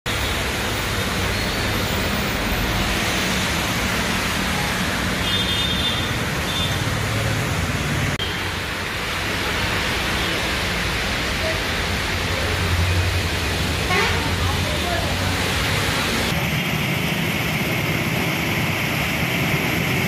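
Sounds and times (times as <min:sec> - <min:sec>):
heavy rain hissing: 0:00.1 - 0:20.0
tyres swishing on wet road: 0:00.1 - 0:20.0.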